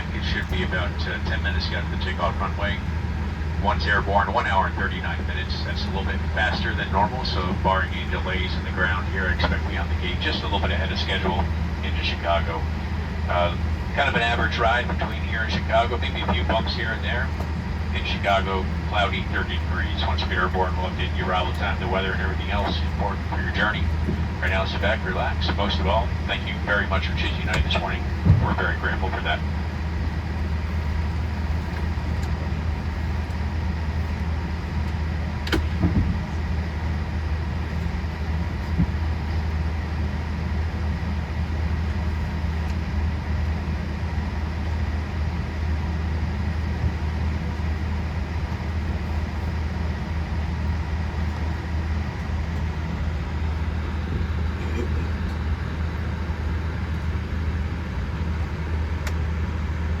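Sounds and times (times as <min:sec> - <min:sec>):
airliner cabin hum: 0:00.0 - 1:00.0.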